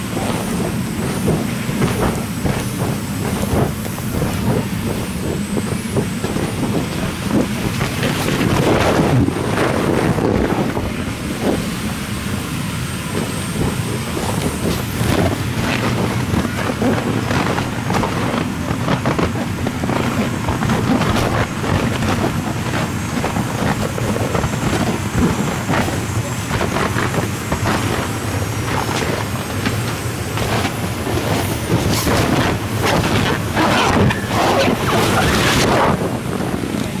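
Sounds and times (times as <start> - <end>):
electric blower rumbling: 0.0 - 37.0.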